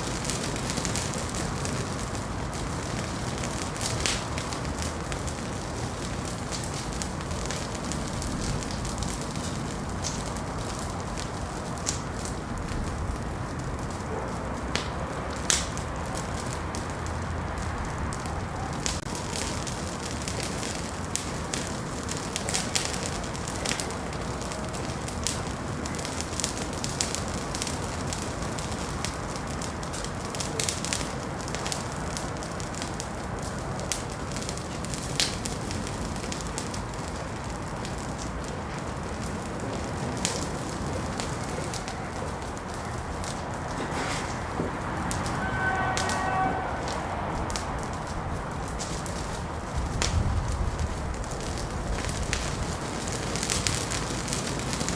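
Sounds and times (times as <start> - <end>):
fire crackles and pops: 0.0 - 54.9
wood fire hissing: 0.0 - 54.9.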